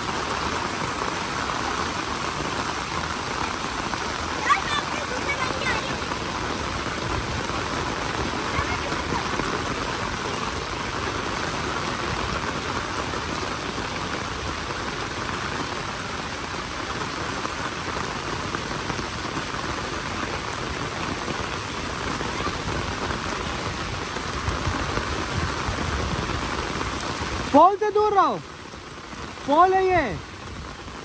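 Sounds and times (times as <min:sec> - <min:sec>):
rain pattering on surfaces: 0:00.0 - 0:31.0.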